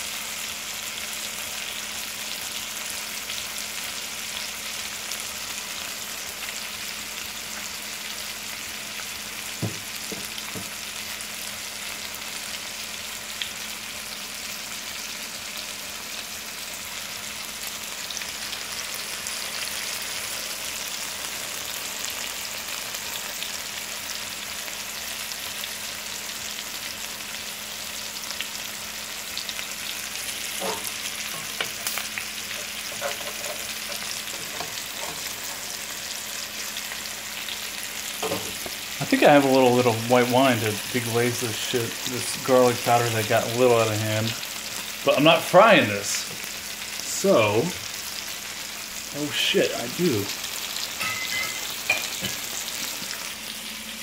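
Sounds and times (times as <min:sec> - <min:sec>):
chicken frying in a skillet: 0:00.0 - 0:54.0.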